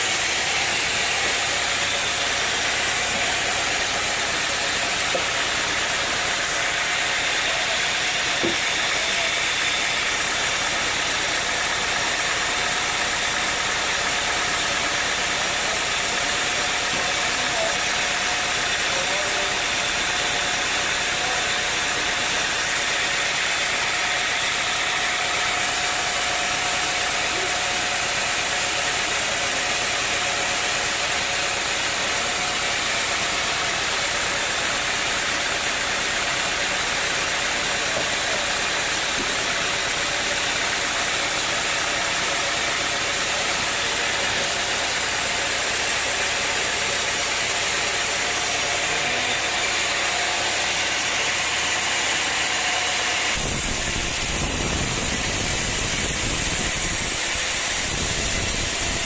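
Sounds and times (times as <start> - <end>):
machine running: 0.0 - 59.0.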